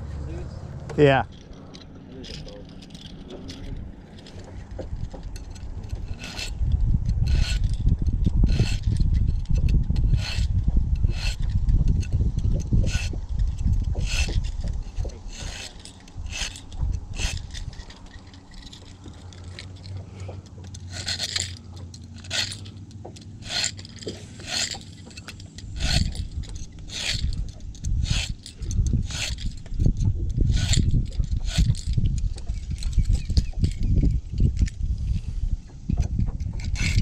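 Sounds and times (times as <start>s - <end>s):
low steady hum: 0.0s - 37.0s
hand tool scraping metal hook: 1.0s - 37.0s.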